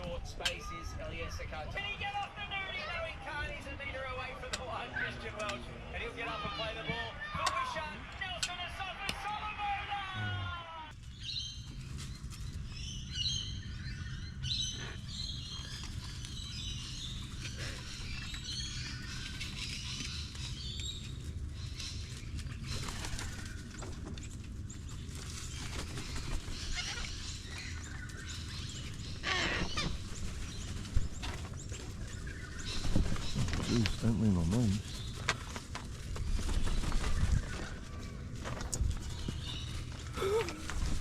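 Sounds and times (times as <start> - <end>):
small birds chirping: 0.0 - 8.6, 10.9 - 41.0.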